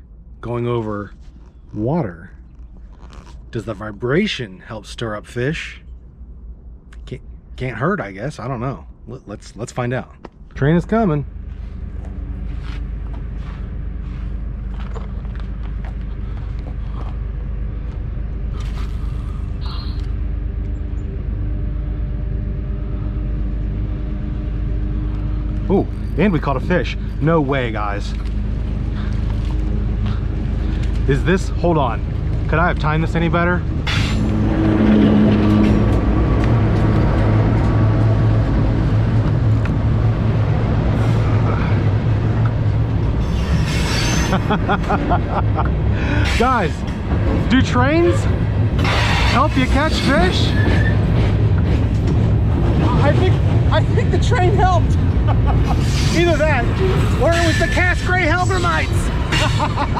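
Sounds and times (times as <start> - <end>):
steady hum: 0.0 - 59.9
train rumbling over bridge: 9.8 - 59.9.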